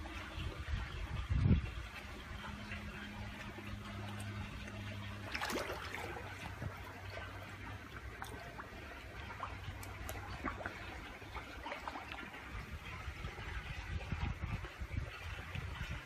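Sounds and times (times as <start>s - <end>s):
low hum: 0.0s - 16.0s
water trickling: 0.0s - 16.0s.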